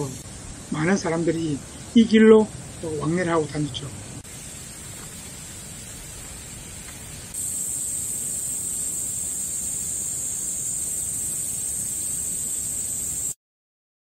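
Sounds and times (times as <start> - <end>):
high-pitched insect chorus: 0.0 - 13.4.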